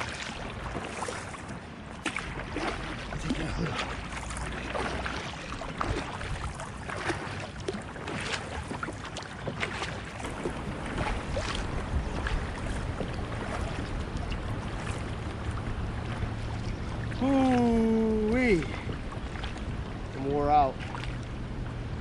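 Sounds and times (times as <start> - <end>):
water splashing: 0.0 - 22.0.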